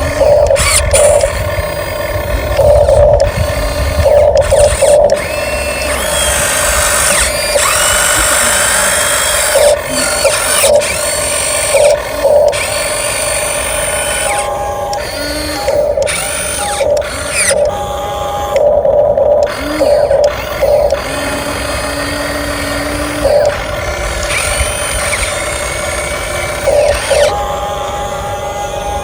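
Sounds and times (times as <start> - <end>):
toy truck electric motor whining: 0.0 - 29.0.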